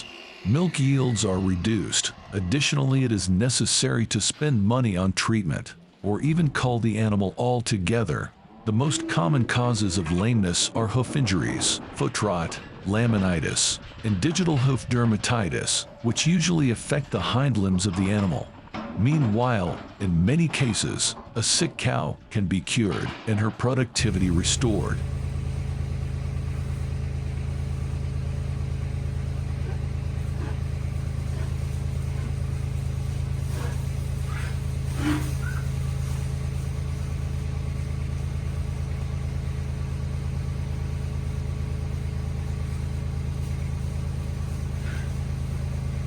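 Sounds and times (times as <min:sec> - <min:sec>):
engine running with low drone: 0:00.0 - 0:04.4, 0:05.6 - 0:20.0, 0:24.0 - 0:46.0.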